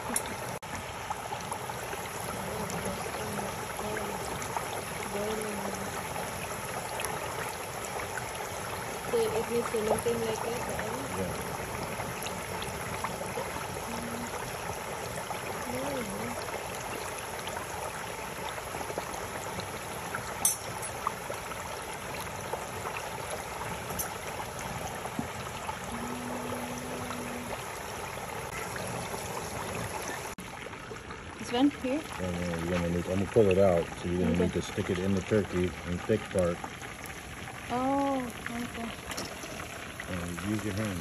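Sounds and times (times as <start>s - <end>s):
oil sizzling and bubbling: 0.0s - 41.0s.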